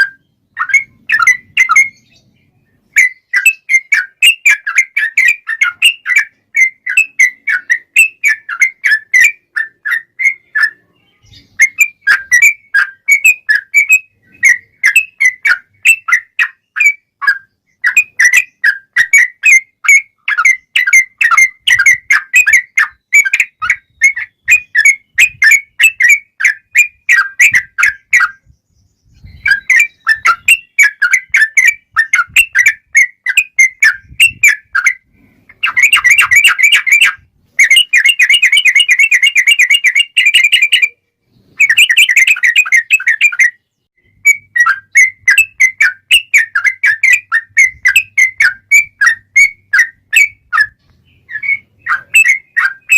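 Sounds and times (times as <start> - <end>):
bird singing rapid whistles: 0.0 - 52.9.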